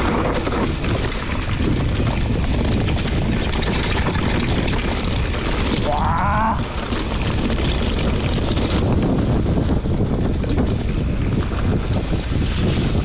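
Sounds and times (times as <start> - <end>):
mountain bike rumbling on trail: 0.0 - 13.0
wind buffeting microphone: 0.0 - 13.0.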